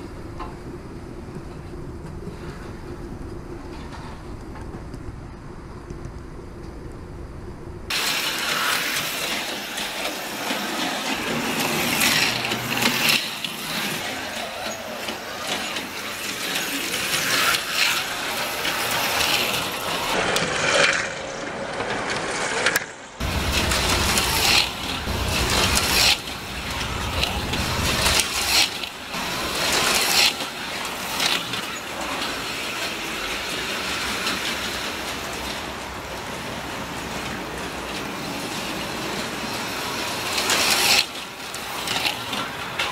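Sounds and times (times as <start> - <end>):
slot car electric motors whining: 7.9 - 42.9.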